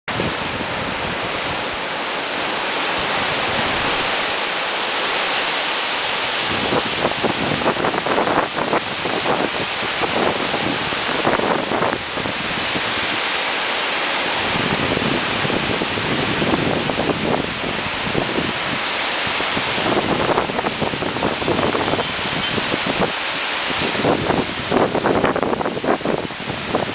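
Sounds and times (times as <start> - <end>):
strong storm wind: 0.1 - 26.9
wind buffeting the microphone: 0.1 - 26.9.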